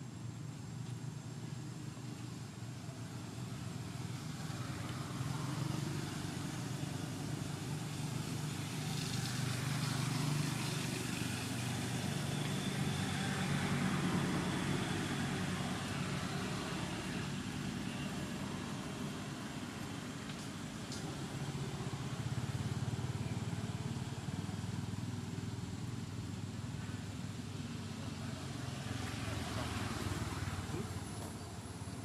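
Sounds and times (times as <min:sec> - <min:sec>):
low rumble of motor traffic: 0:00.0 - 0:32.0.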